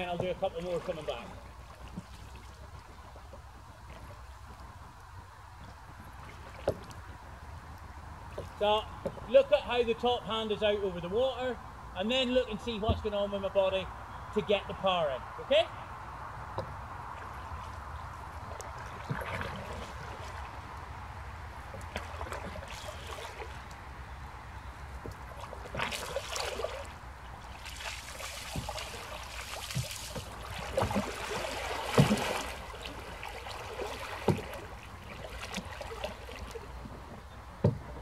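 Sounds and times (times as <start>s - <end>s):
paddle splashing in water: 0.0s - 9.3s, 16.4s - 38.0s
low wind rumble: 0.0s - 38.0s.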